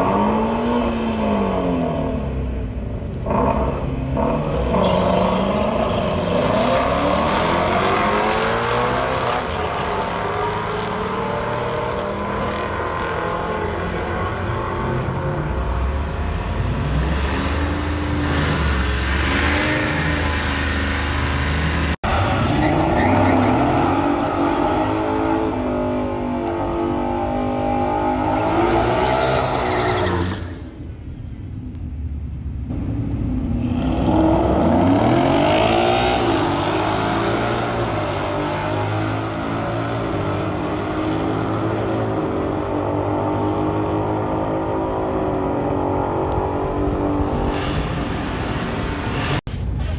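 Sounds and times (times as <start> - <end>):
car engines revving and accelerating: 0.0 - 31.1, 31.7 - 49.9.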